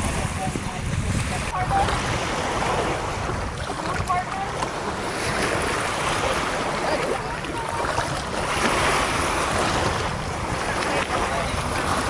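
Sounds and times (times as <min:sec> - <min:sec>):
water sloshing around waders: 0:00.0 - 0:12.0
wind buffeting microphone: 0:00.0 - 0:12.0.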